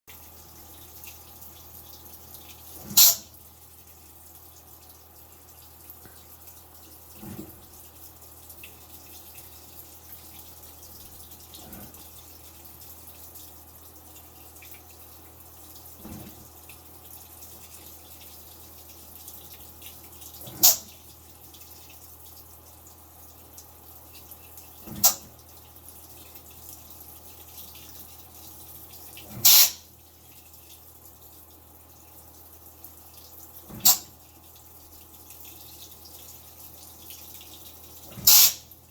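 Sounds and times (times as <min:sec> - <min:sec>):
washing machine humming: 0:00.1 - 0:38.9.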